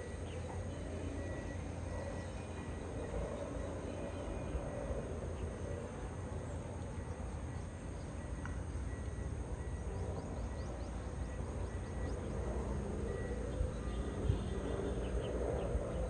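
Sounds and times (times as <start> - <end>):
low rumble of distant machinery: 0.0 - 16.0.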